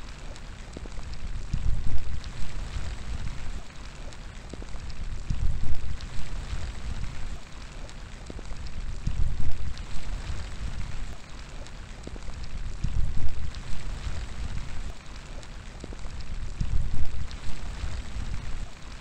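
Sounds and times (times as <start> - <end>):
rain falling: 0.0 - 19.0
wind gusts rumbling: 0.1 - 19.0.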